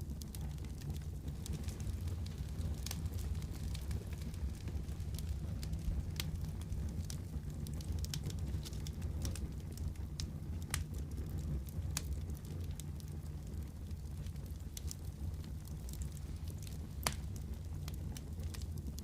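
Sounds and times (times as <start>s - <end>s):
fire pops and snaps: 0.0s - 19.0s
low fire rumble: 0.0s - 19.0s.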